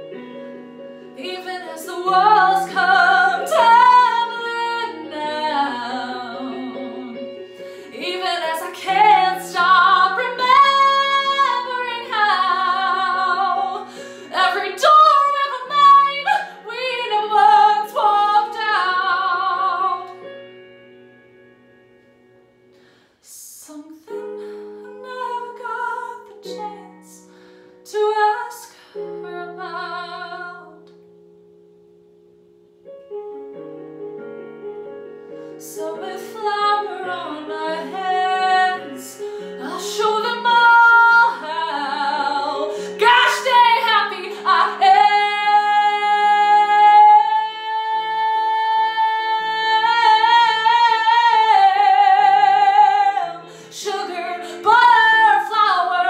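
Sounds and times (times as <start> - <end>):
woman singing: 1.1 - 20.3, 23.2 - 30.9, 35.6 - 56.0.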